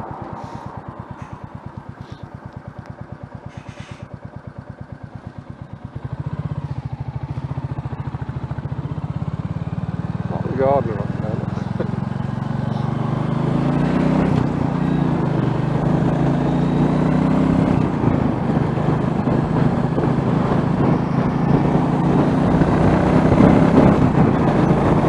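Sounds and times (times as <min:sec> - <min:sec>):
motorcycle engine running: 0:00.0 - 0:25.0
road and wind noise: 0:00.0 - 0:25.0.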